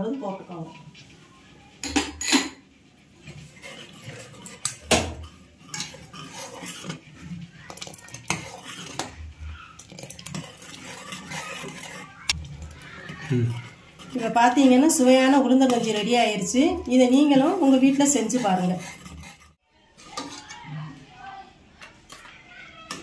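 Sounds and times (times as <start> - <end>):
ladle knocking and scraping pot: 1.8 - 20.6.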